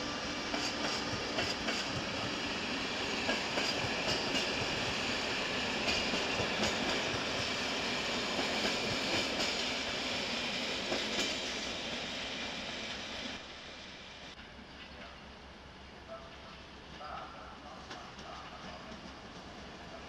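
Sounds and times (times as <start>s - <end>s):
train wheels hissing on rail: 0.0s - 20.0s.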